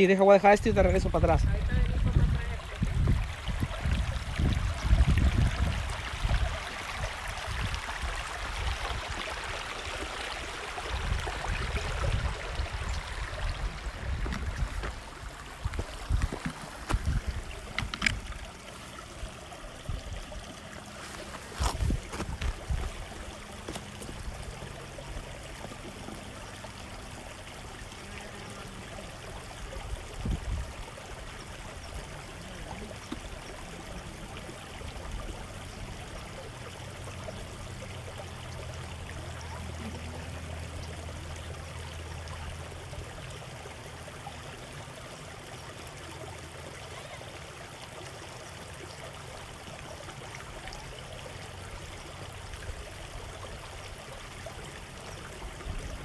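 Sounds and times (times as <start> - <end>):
creek water trickling over rocks: 0.0 - 56.0.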